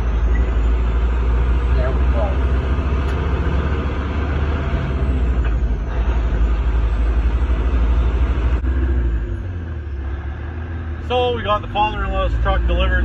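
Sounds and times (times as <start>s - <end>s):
diesel truck engine rumbling: 0.0s - 13.0s
road noise: 0.0s - 13.0s.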